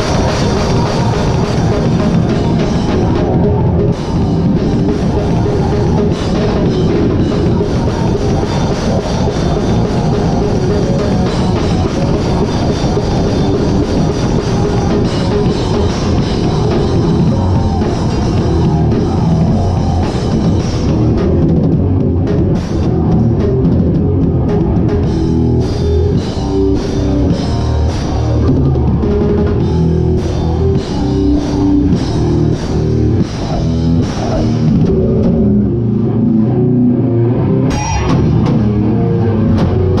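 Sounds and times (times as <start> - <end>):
loud drums: 0.0 - 36.5, 37.7 - 40.0
distorted guitar: 0.0 - 40.0.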